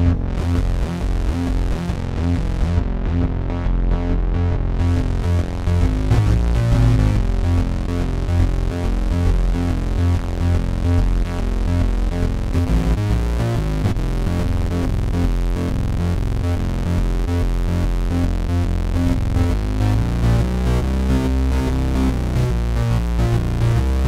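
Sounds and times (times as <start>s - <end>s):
deep synth bass: 0.0s - 24.0s
synthesizer fast notes: 0.0s - 24.0s.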